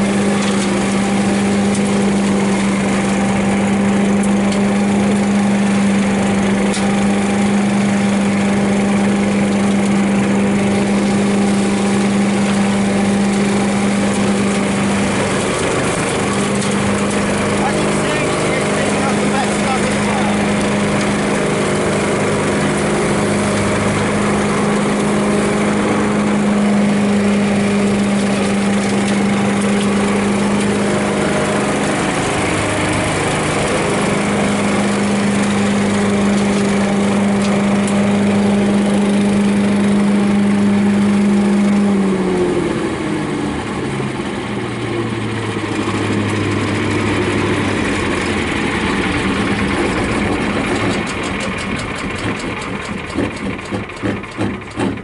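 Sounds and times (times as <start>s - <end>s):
petrol engine running: 0.0s - 55.0s.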